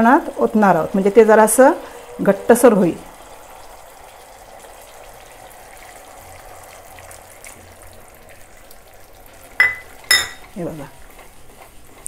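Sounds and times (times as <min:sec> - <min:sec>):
sauce simmering hiss: 0:00.0 - 0:12.0.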